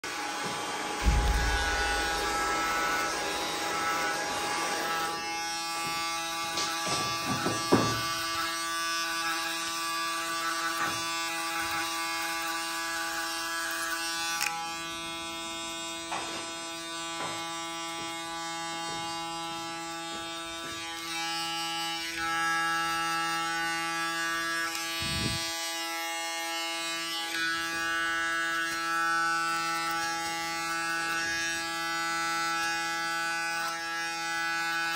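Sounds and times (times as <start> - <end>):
electric hair clipper buzzing: 0.0 - 34.9.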